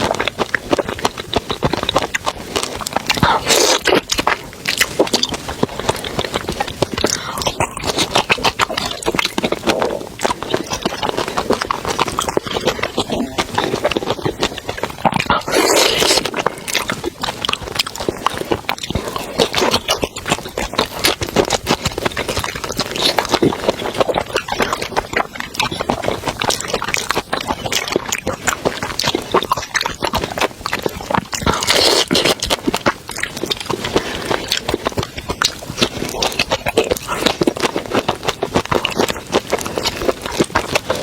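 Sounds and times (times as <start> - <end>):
wet chewing with crunches: 0.0 - 41.0.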